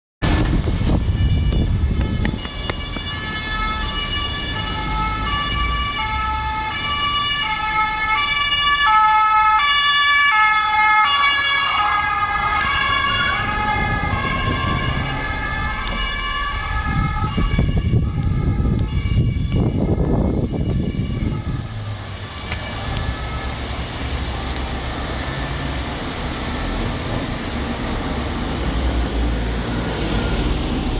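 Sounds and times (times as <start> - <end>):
low vehicle rumble: 0.2 - 30.9
two-tone police siren: 0.4 - 30.9.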